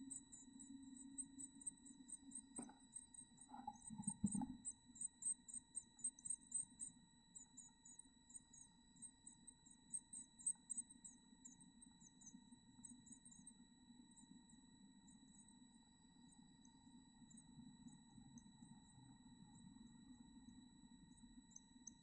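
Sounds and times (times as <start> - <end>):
thin electronic whine: 0.0 - 22.0.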